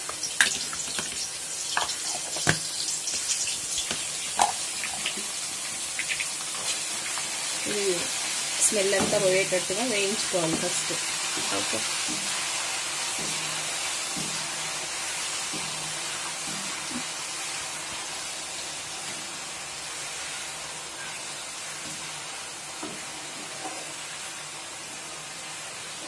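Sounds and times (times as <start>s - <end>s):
paste sizzling in hot oil: 0.0s - 26.0s.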